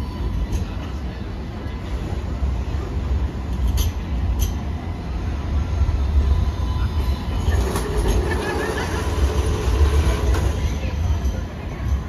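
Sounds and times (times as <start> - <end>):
tram wheels rumbling: 0.0 - 12.0.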